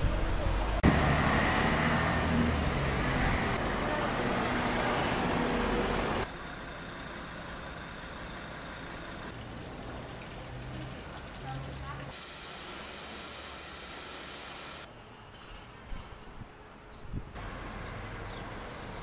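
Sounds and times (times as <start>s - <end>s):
quiet street background: 0.0s - 19.0s
road noise: 0.0s - 19.0s.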